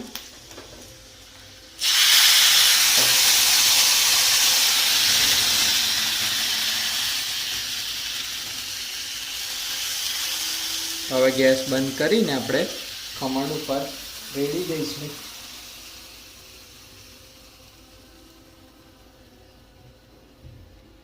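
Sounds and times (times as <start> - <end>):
hot oil hissing and sizzling: 0.0 - 20.2.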